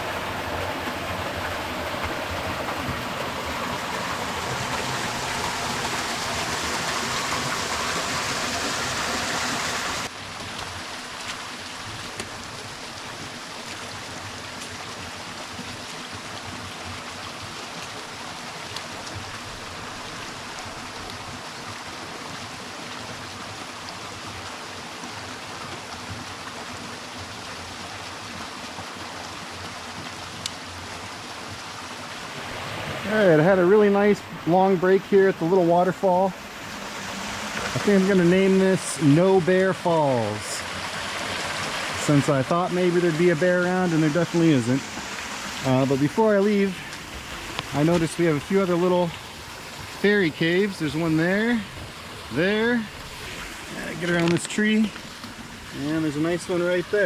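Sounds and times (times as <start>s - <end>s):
waterfall splashing: 0.0s - 57.0s.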